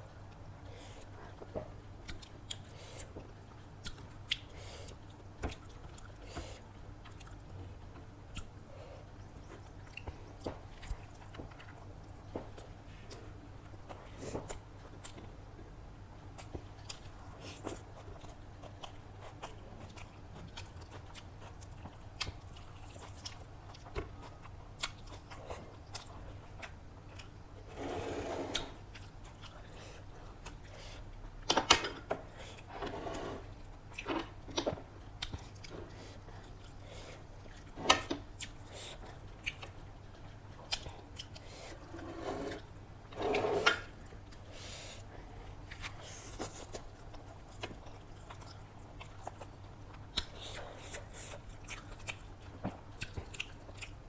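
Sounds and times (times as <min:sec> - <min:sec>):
person chewing food: 0:00.2 - 0:15.3, 0:16.4 - 0:27.5, 0:28.4 - 0:31.5, 0:32.2 - 0:54.0.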